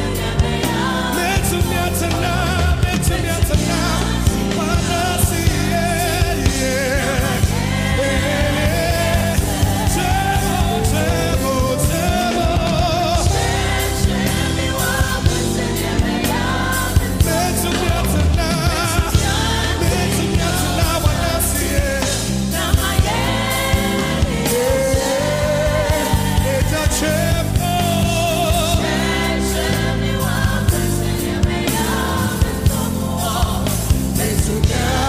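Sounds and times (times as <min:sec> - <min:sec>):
backing choir singing: 0:00.0 - 0:35.0
band playing: 0:00.0 - 0:35.0
lead voice singing: 0:00.0 - 0:35.0
steady drum beat: 0:00.0 - 0:35.0
sustained bass: 0:00.0 - 0:35.0.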